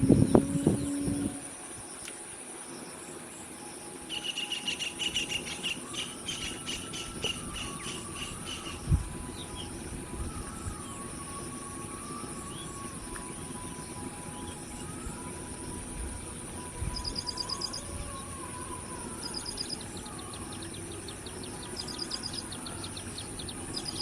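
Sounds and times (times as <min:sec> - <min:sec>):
high-pitched insect drone: 0:00.0 - 0:24.0
rapid chirps: 0:04.1 - 0:24.0.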